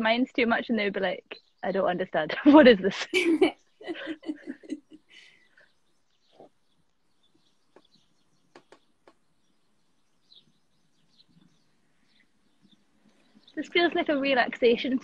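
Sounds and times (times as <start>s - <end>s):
faint bird chirps: 0.2s - 15.0s.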